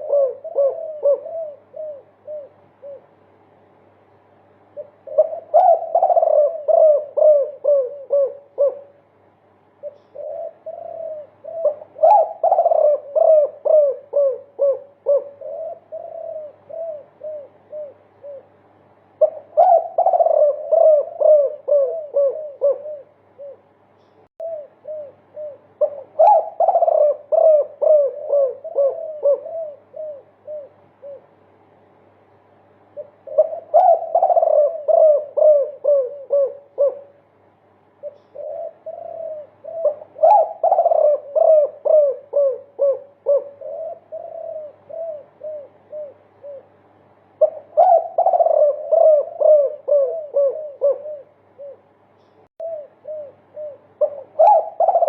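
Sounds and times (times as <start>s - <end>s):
dove cooing: 0.0s - 3.4s, 4.6s - 9.1s, 9.8s - 31.6s, 32.8s - 55.0s.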